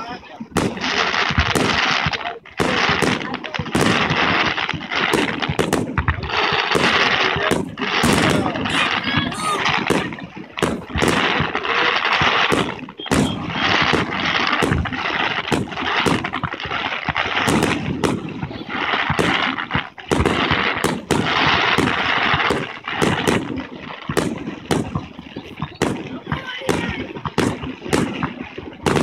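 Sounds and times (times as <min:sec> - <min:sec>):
fireworks shells bursting: 0:00.0 - 0:29.0.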